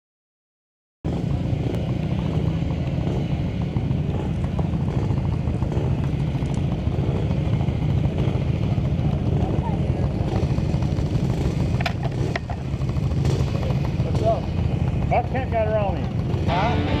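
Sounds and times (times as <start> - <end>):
motorcycle engines running: 1.1 - 17.0.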